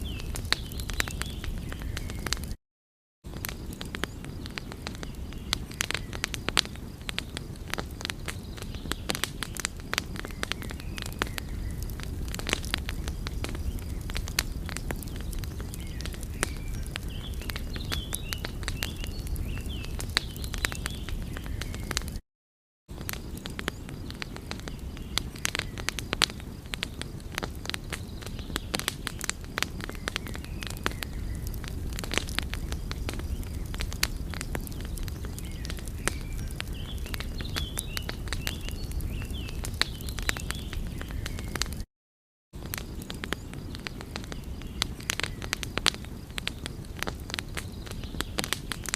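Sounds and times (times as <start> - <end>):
low steady fire rumble: 0.0 - 2.6, 3.3 - 22.2, 22.9 - 41.8, 42.6 - 48.9
wood fire crackling and popping: 0.0 - 2.6, 3.3 - 22.2, 22.9 - 41.9, 42.6 - 48.9.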